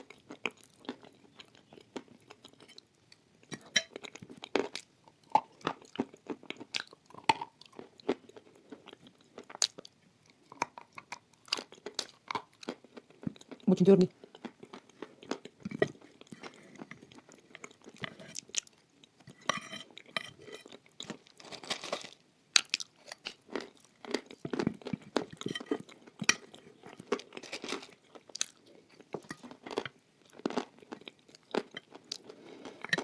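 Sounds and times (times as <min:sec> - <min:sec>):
person chewing with crunches: 0:00.0 - 0:33.0.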